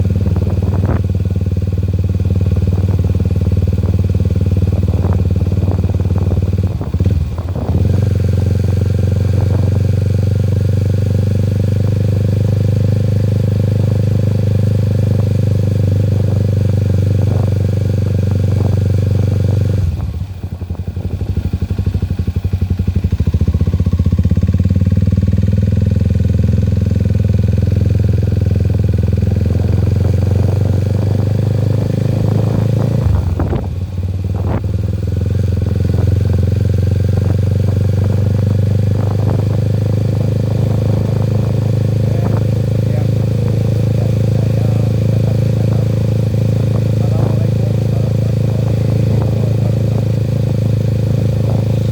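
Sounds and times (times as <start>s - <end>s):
vehicle engine droning: 0.0s - 51.9s.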